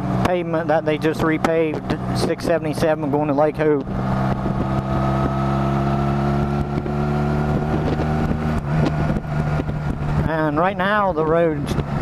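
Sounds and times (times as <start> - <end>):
motorcycle engine running: 0.0 - 12.0
wind rushing over microphone: 0.9 - 12.0.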